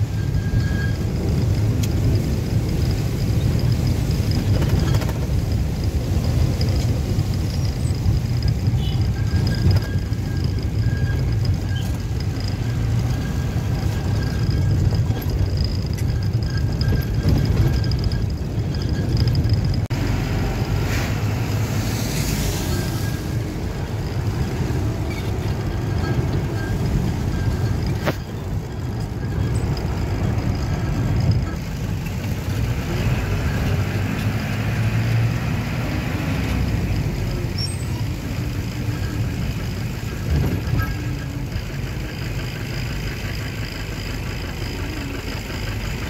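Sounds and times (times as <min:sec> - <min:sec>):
vehicle engine and tyres rumbling: 0:00.0 - 0:46.0.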